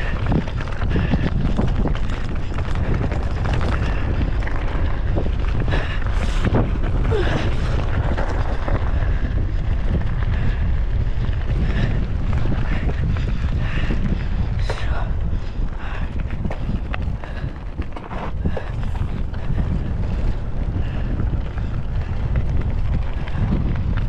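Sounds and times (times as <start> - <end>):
bike rattling: 0.0 - 24.0
wind buffeting microphone: 0.0 - 24.0.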